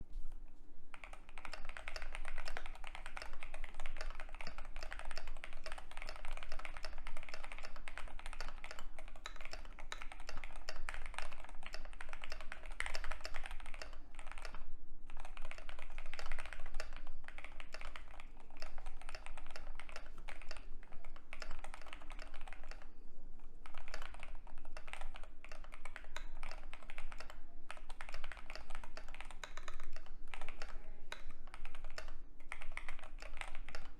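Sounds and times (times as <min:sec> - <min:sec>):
fast keyboard typing clacks: 0:00.9 - 0:22.9, 0:23.6 - 0:33.9.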